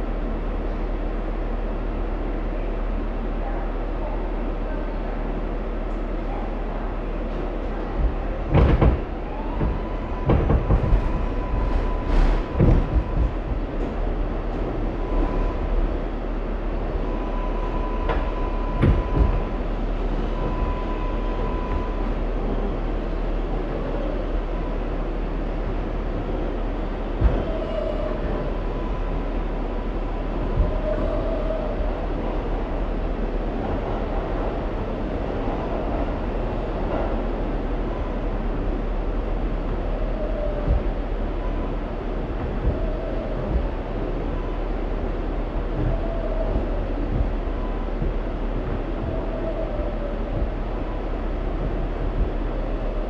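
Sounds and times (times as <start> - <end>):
train equipment hum and hiss: 0.0 - 53.0.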